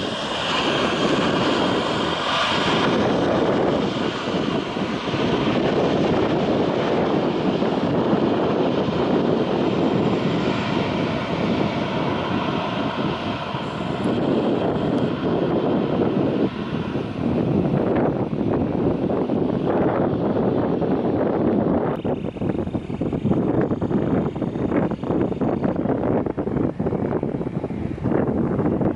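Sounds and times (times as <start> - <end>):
jet engine high whine: 0.0 - 28.9
jet engine rumble: 0.0 - 28.9.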